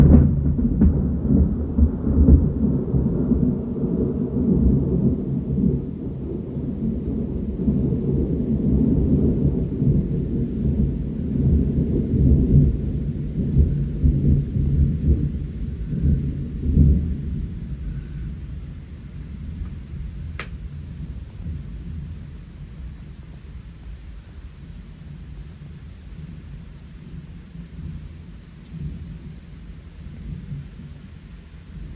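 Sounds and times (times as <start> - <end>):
rain falling: 0.0 - 31.9
thunder rumbling: 0.0 - 31.9.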